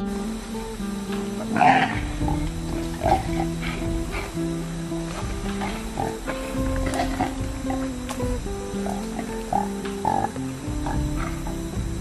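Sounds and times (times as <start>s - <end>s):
background music with bass line: 0.0s - 12.0s
piglet calls: 1.4s - 11.7s.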